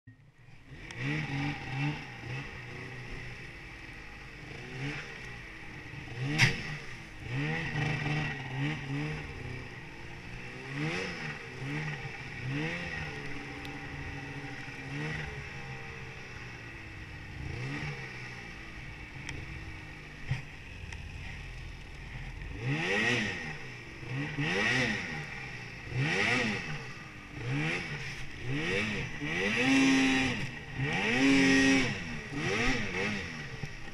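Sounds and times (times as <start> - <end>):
snowmobile engine revving: 0.5 - 33.9.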